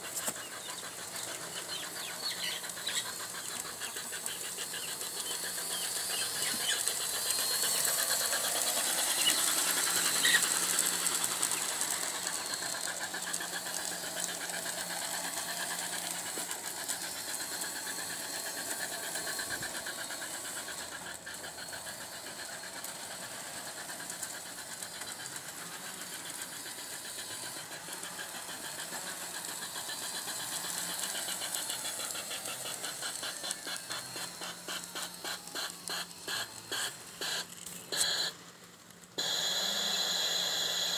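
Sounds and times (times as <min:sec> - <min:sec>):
wheels rattling over rails: 0:00.0 - 0:40.0
model train motor whirring: 0:00.0 - 0:40.9.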